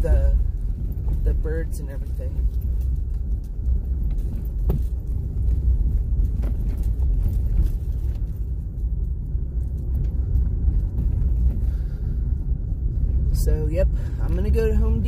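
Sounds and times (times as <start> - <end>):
vehicle driving slowly on dirt: 0.0 - 15.0.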